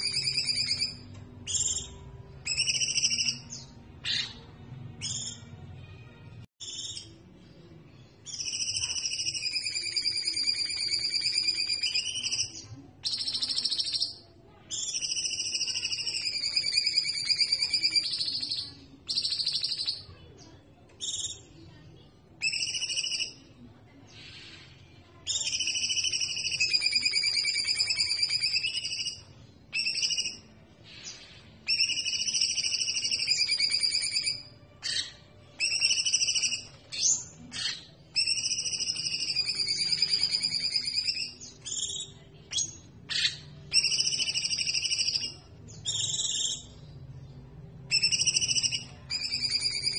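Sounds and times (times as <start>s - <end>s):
birds singing whistled phrases: 0.0s - 4.4s, 5.0s - 5.6s, 6.6s - 7.2s, 8.2s - 20.2s, 21.0s - 21.6s, 22.4s - 47.2s, 47.9s - 49.9s.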